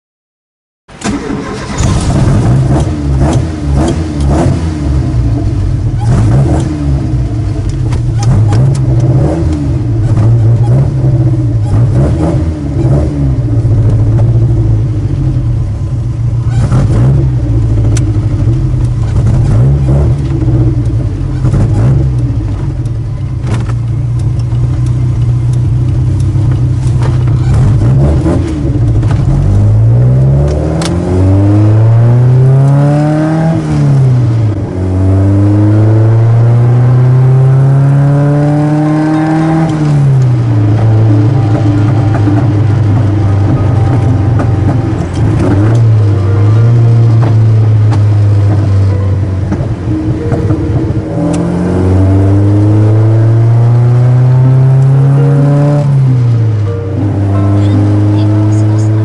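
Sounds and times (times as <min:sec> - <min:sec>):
car engine heard from cabin: 0:01.0 - 0:59.0.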